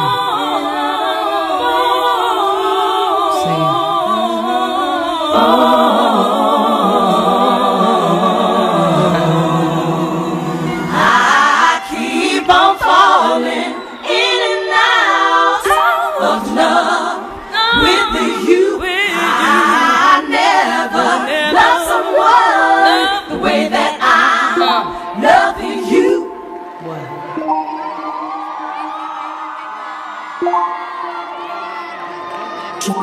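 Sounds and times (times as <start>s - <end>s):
choir voices singing: 0.0s - 33.0s.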